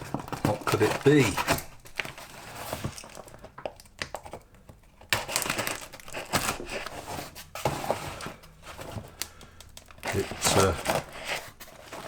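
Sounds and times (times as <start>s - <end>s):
parcel packaging crinkling: 0.0s - 12.0s.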